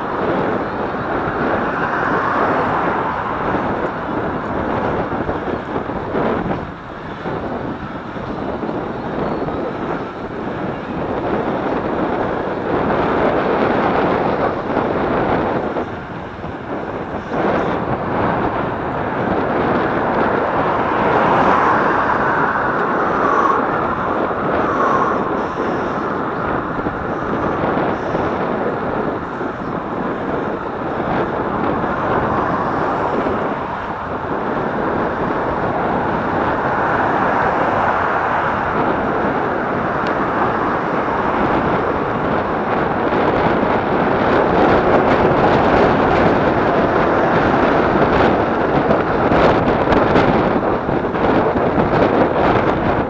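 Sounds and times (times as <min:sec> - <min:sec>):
traffic: 0:00.0 - 0:53.0
wind rushing over microphone: 0:00.0 - 0:53.0.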